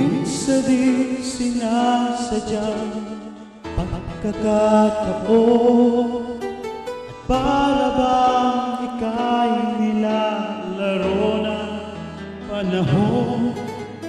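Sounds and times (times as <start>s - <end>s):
music with long held notes: 0.0s - 14.0s.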